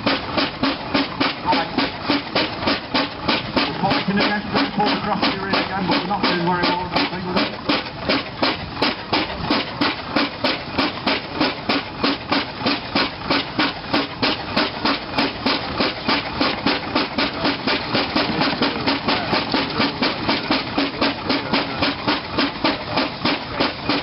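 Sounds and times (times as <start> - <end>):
steam engine exhaust chuffing: 0.0 - 24.0.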